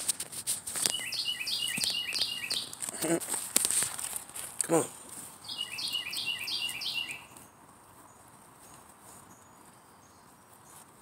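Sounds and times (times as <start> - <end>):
faint rustling in pine straw: 0.0 - 11.0
songbird singing: 0.8 - 3.3, 4.0 - 11.0.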